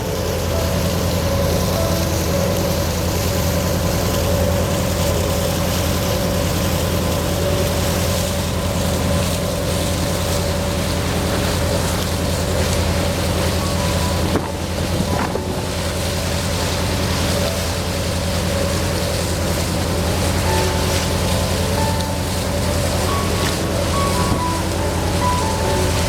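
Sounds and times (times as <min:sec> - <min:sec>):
ferry engine drone: 0:00.0 - 0:26.0
wind and water hiss: 0:00.0 - 0:26.0.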